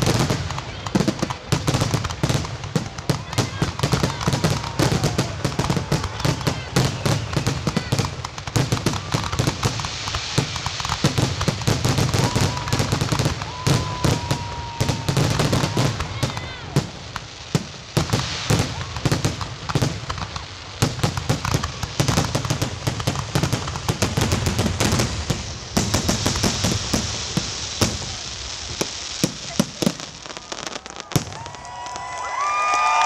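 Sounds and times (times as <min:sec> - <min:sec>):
fireworks bursting: 0:00.0 - 0:33.0
fireworks crackling: 0:00.0 - 0:33.0.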